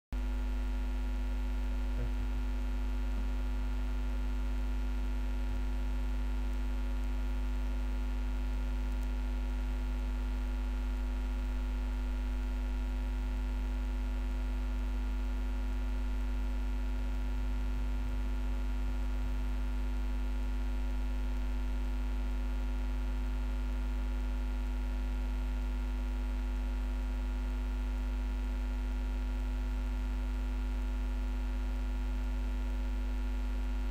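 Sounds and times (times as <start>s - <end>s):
electrical hum: 0.2s - 33.9s.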